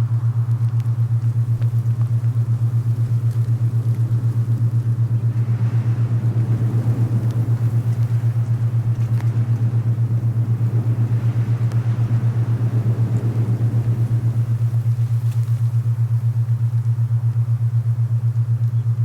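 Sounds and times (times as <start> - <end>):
pulsing low hum tone: 0.0 - 19.0
soft wind noise: 0.0 - 19.0.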